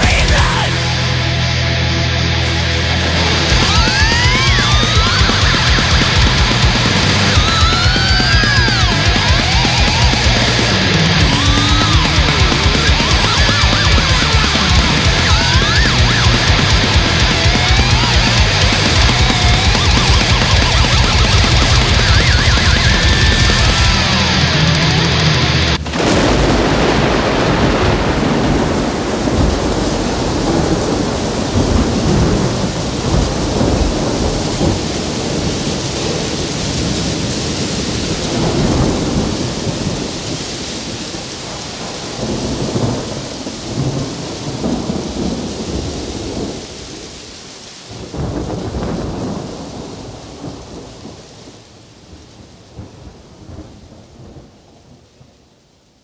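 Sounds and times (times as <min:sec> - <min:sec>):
heavy rain: 0:00.0 - 0:56.0
rolling thunder: 0:02.4 - 0:55.0.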